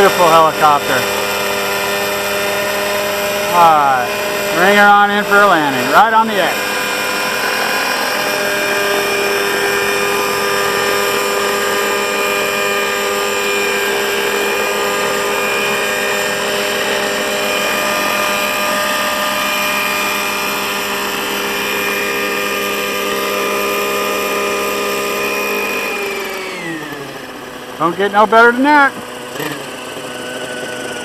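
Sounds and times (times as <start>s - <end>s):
model helicopter engine whine: 0.0s - 31.0s.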